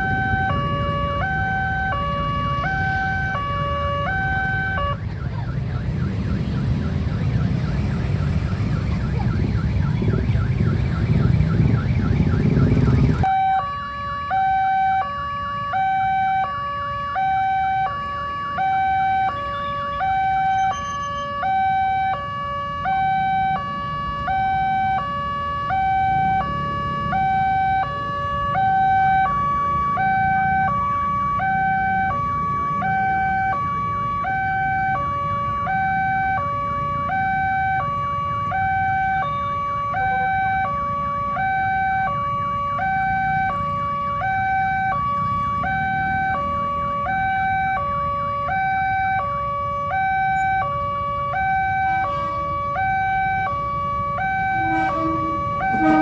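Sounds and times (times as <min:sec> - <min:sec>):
level crossing warning alarm: 0:00.0 - 0:56.0.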